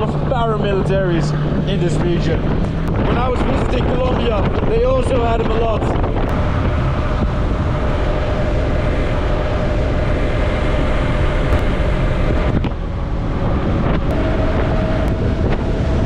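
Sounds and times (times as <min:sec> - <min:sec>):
motorcycle engine cruising: 0:00.0 - 0:16.0
wind noise on microphone: 0:00.0 - 0:16.0.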